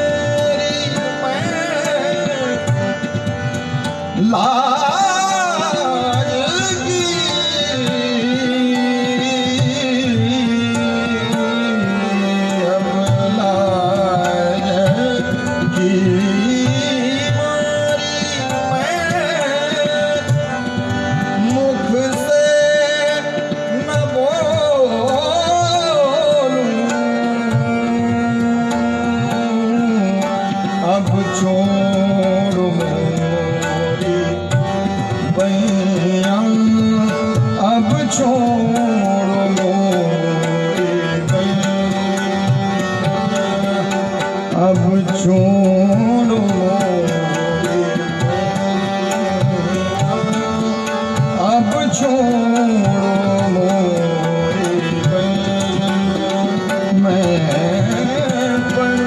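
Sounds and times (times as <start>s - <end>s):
harmonium notes: 0.0s - 59.0s
man singing: 0.0s - 59.0s
tabla playing: 0.0s - 59.0s.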